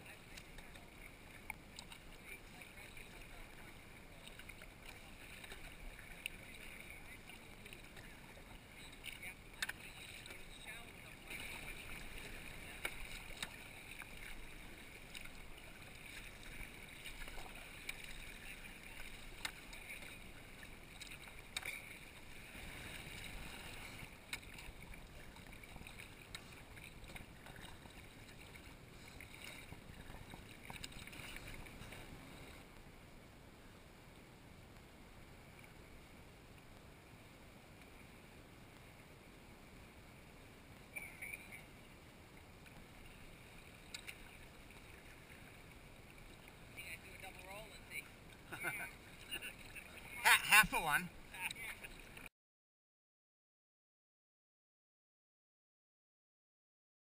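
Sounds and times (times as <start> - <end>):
paddle splashes: 0.0 - 33.0, 34.8 - 52.3
water lapping against hull: 0.0 - 33.0, 33.8 - 52.3.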